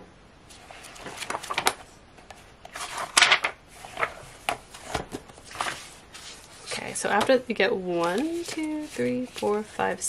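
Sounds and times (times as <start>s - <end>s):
paper pages rustling: 0.5s - 10.0s.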